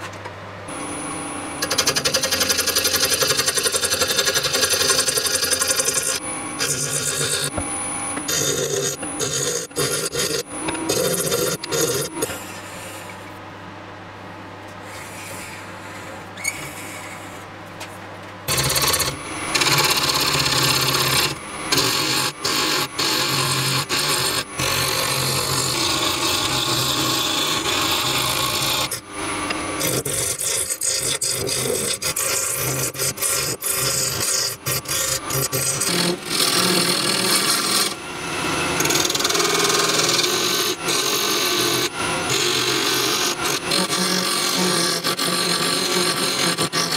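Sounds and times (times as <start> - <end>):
wood lathe humming: 0.7 - 13.4, 18.5 - 46.9
lathe tool shaving wood: 1.6 - 7.6, 8.2 - 12.9, 18.5 - 46.9.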